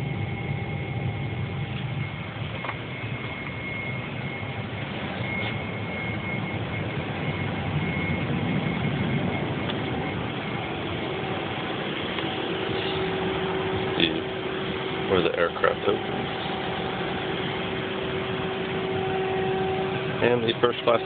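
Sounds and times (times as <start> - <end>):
cabin ventilation hum: 0.0 - 21.0
faint high whine: 0.0 - 21.0
low steady tone: 0.0 - 21.0.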